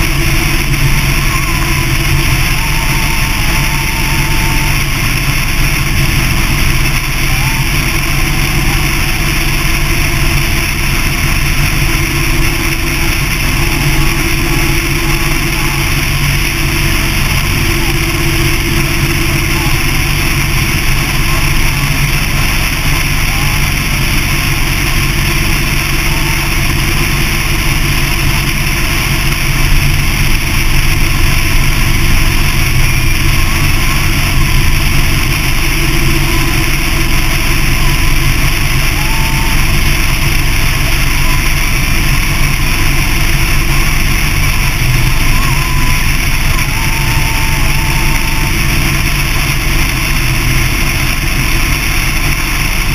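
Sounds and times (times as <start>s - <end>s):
motorcycle engine drone: 0.0s - 52.9s.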